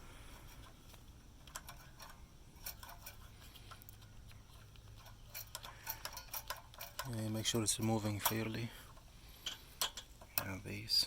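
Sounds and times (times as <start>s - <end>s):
small metal parts clicking: 1.4s - 10.8s.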